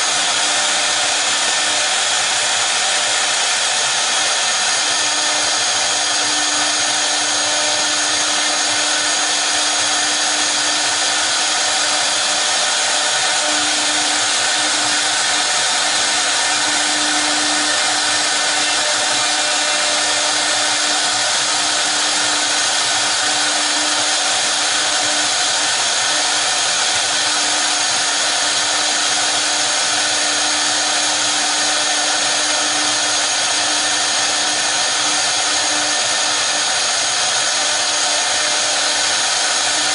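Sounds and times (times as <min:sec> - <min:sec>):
router spindles hissing and humming: 0:00.0 - 0:39.9.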